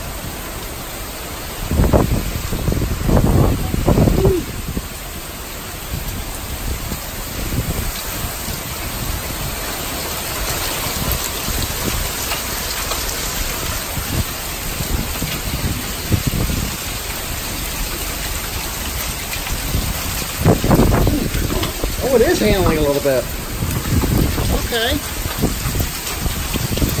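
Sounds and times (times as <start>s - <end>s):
heavy rain pouring: 0.0s - 27.0s
wind buffeting microphone: 0.1s - 27.0s.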